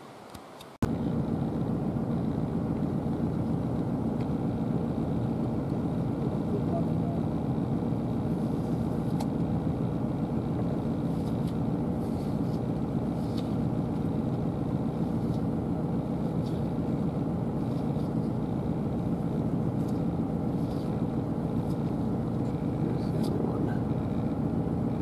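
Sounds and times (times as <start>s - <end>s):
vehicle engine rumbling: 0.8s - 25.0s.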